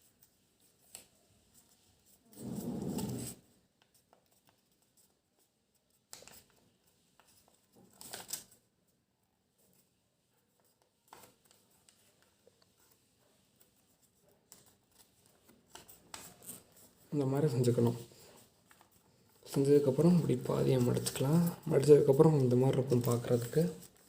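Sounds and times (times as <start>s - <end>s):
paper folding and crackling: 0.0s - 24.0s.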